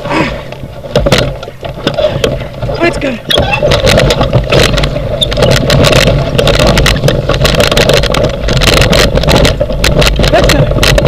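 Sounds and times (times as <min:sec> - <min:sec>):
wheels rumbling on dirt trail: 0:00.0 - 0:11.0
frame rattling and knocking: 0:00.6 - 0:11.0.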